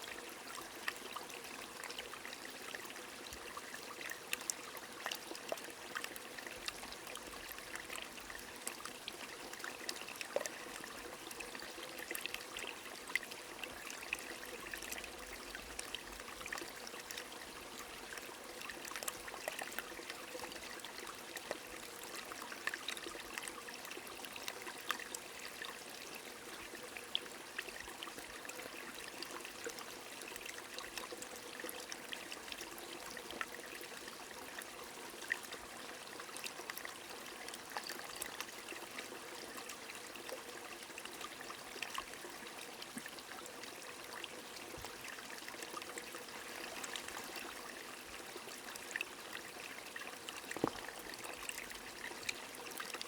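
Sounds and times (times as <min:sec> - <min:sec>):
stream trickling: 0:00.0 - 0:53.0.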